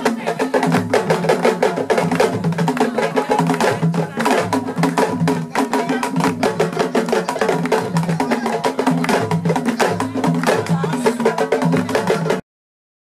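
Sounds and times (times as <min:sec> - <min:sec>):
fast hand drumming: 0:00.0 - 0:12.4.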